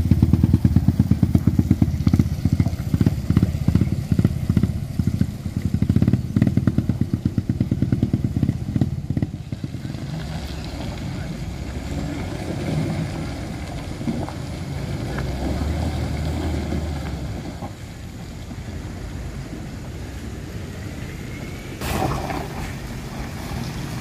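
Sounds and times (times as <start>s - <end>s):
diesel truck engines rumbling: 0.0s - 24.0s.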